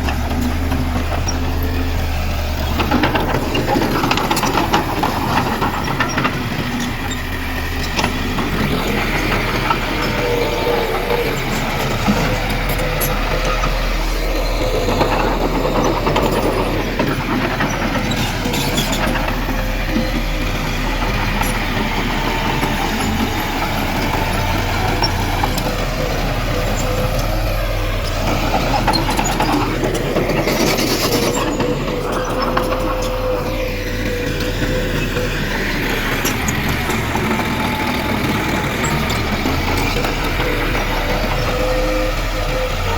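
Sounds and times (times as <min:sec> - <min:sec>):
constant whine: 0:00.0 - 0:42.9
diesel machinery running: 0:00.0 - 0:42.9.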